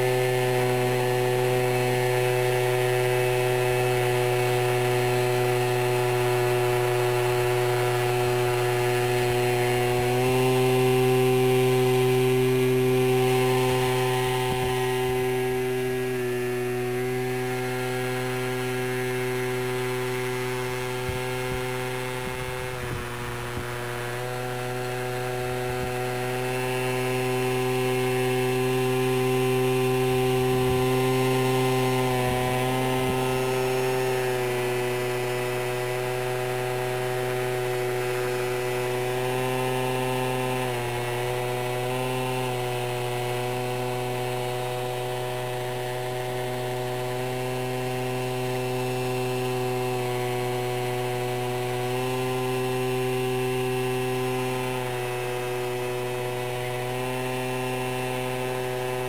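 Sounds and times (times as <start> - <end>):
model plane motor whine: 0.0 - 59.0.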